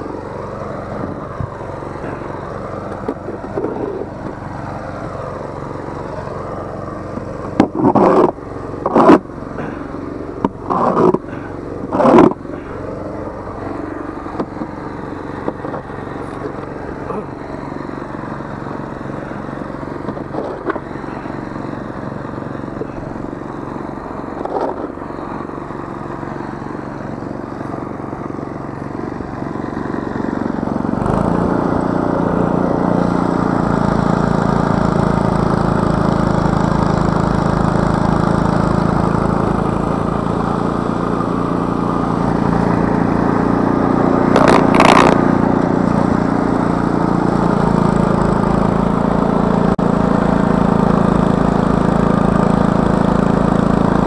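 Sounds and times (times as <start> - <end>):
auger throwing snow: 0.0 - 54.0
snowblower engine running: 0.0 - 54.0.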